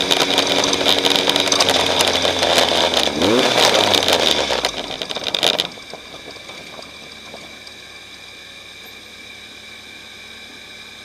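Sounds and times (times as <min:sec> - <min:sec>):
race vehicle engine and rattle: 0:00.0 - 0:11.0.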